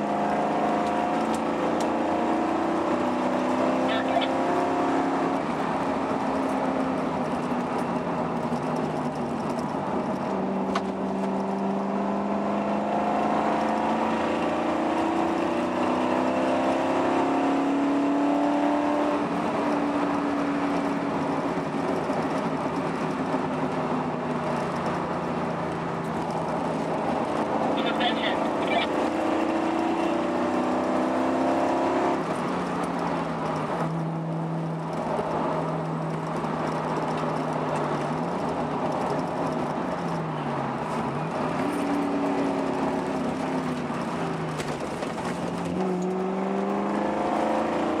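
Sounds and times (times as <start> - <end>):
car engine and tyre noise: 0.0 - 48.0.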